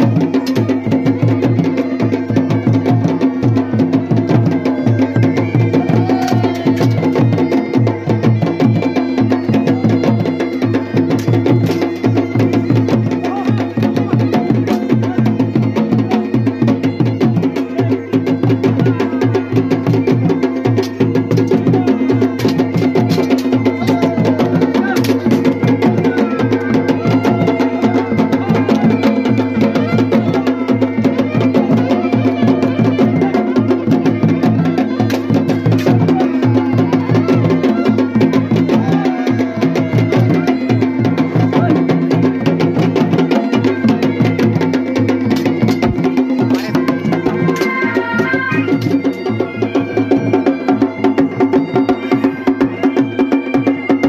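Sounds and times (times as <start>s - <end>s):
bagpipe drone and melody: 0.0s - 54.0s
drums beaten fast: 0.0s - 54.0s.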